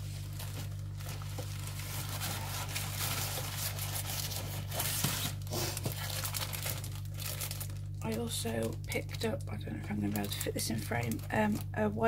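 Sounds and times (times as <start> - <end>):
plastic packaging rustling: 0.0 - 11.7
steady low hum: 0.0 - 12.0.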